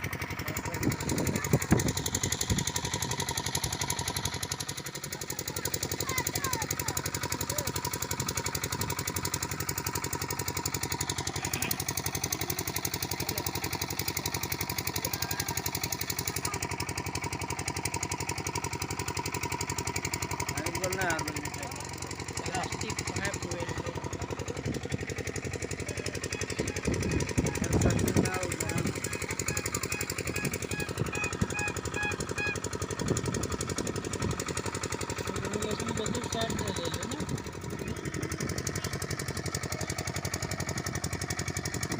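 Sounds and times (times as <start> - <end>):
machine rattling: 0.0 - 41.9
small engine running: 0.0 - 41.9.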